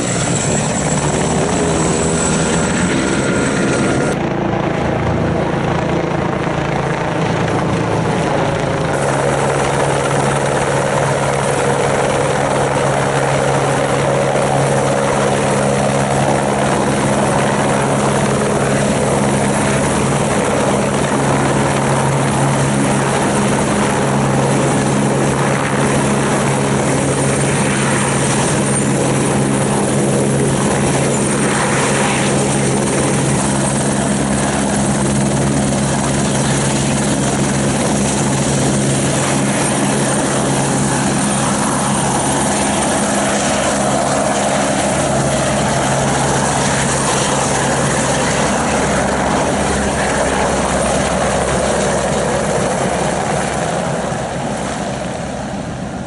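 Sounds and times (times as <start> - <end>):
helicopter rotor and turbine: 0.0 - 56.0.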